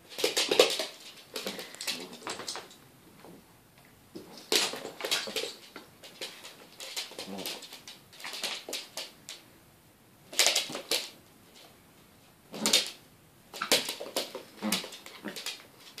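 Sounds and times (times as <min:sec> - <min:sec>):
dogs scuffling: 0:00.0 - 0:03.4, 0:04.1 - 0:09.4, 0:10.3 - 0:11.8, 0:12.5 - 0:16.0.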